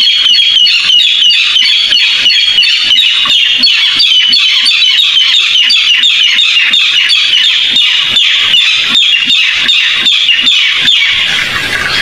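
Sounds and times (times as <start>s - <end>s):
rail bird calling: 0.0s - 12.0s.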